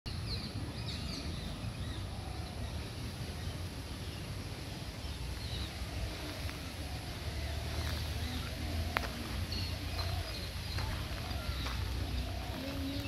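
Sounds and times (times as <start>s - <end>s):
steady low rumble: 0.1s - 13.0s.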